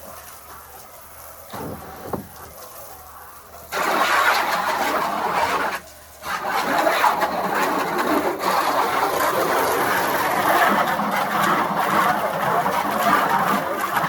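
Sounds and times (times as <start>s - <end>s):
water pump running: 0.0s - 14.0s.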